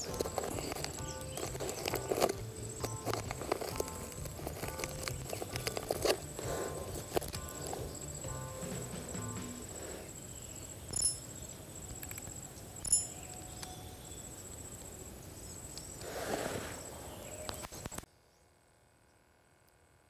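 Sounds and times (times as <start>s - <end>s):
insect trilling: 0.0s - 17.8s.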